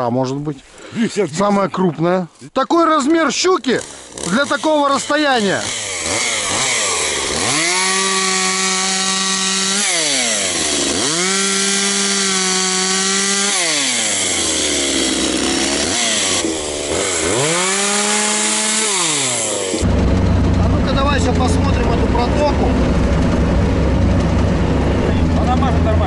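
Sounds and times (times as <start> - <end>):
small engine revving: 3.7 - 26.0.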